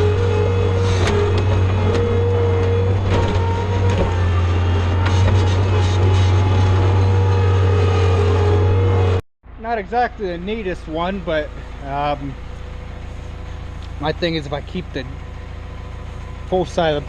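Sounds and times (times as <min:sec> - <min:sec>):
diesel engine running: 0:00.0 - 0:17.0
steady whine: 0:00.0 - 0:17.0.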